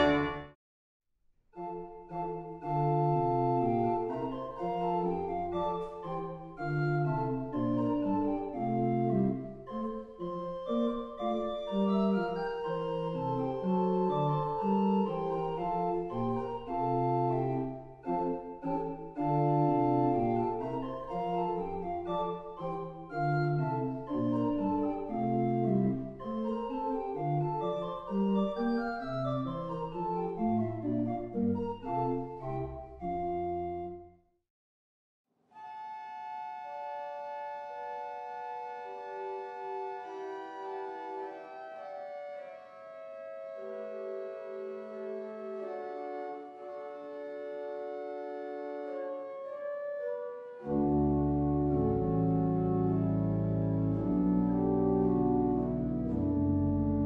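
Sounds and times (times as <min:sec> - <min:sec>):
pipe organ playing: 0:00.0 - 0:00.5, 0:01.6 - 0:34.1, 0:35.6 - 0:57.0.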